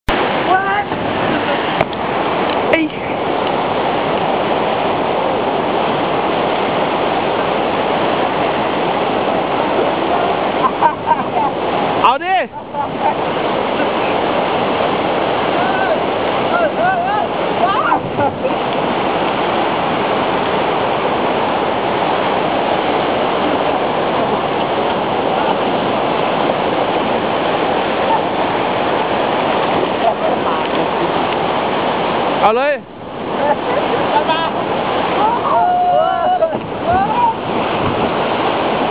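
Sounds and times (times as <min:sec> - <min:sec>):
waterfall rushing: 0:00.1 - 0:38.9.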